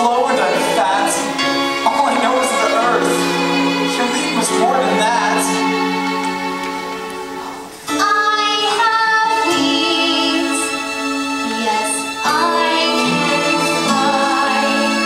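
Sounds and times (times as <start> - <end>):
musical accompaniment: 0.0 - 15.0
voices singing sustained notes: 0.0 - 15.0.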